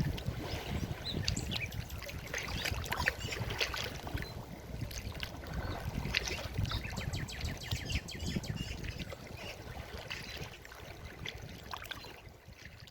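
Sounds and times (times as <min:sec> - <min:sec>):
river water flowing and splashing: 0:00.0 - 0:12.9.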